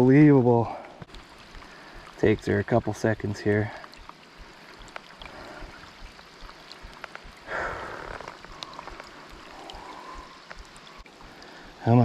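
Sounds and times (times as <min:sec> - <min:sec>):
water drips: 0:00.0 - 0:12.0
river water sloshing: 0:00.8 - 0:11.9.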